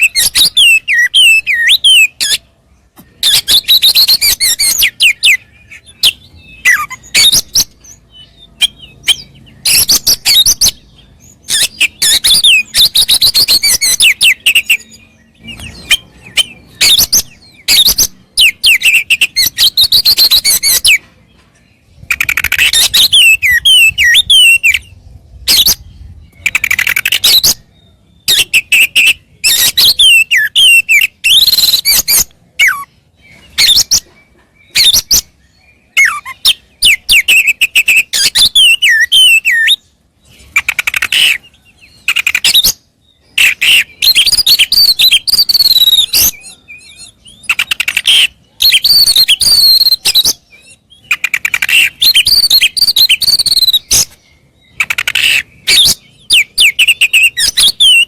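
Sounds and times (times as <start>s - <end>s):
bird singing whistles and clicks: 0.0s - 2.4s, 3.0s - 21.1s, 22.0s - 32.9s, 33.5s - 35.3s, 35.9s - 39.9s, 40.5s - 58.0s.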